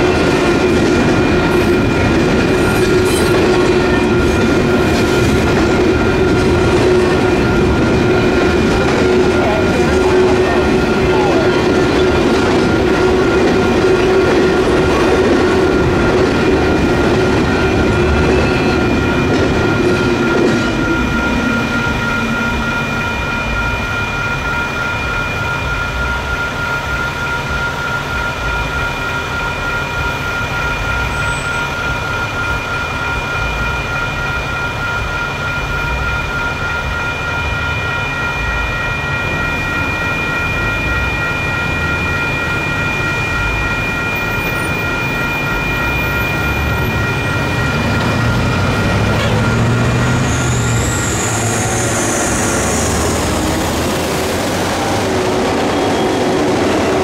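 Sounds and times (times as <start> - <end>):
electronic crossing bells ringing: 0.0 - 57.0
train railcars rumbling: 0.0 - 57.0.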